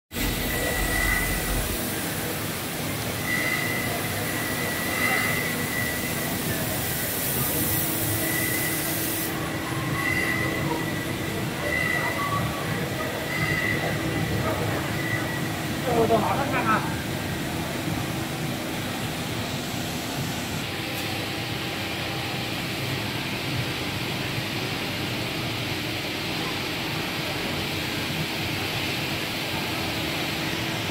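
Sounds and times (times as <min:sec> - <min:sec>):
thin high machine whine: 0:00.1 - 0:25.2
cnc router running: 0:00.2 - 0:30.9.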